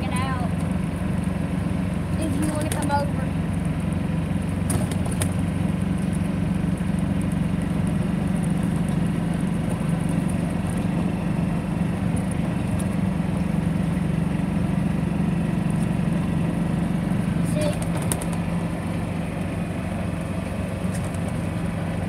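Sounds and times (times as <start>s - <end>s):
golf cart motor droning: 0.0s - 22.0s.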